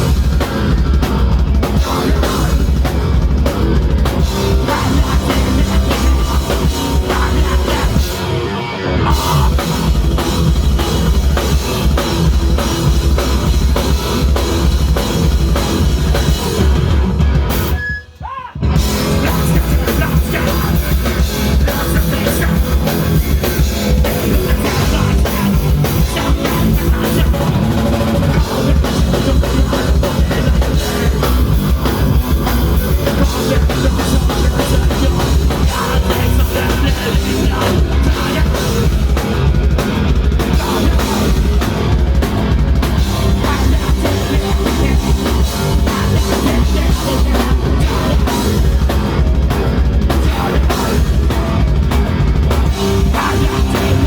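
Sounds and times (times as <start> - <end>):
heavy rock band playing live: 0.0 - 54.0.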